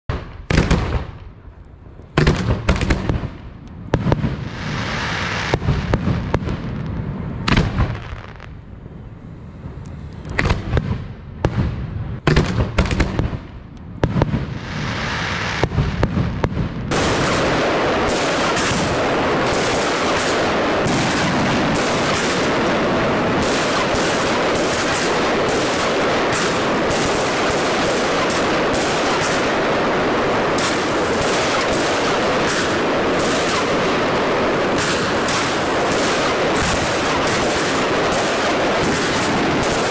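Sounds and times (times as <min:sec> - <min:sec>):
fireworks bangs and crackling: 0:00.1 - 0:39.9.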